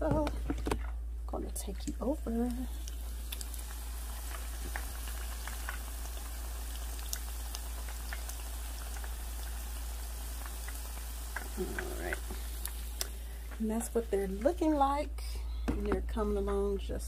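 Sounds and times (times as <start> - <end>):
oil pops and crackles: 0.0 - 14.6
deep-frying bubbling sizzle: 0.7 - 15.2.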